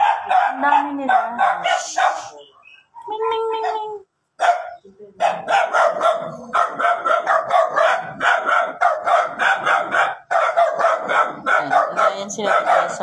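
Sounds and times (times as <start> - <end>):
dog barking rapidly: 0.0 - 2.8, 3.6 - 13.0.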